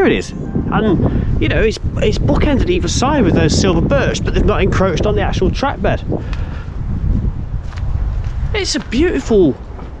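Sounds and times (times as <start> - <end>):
low rumble: 0.0 - 8.6
wind buffeting microphone: 0.0 - 10.0.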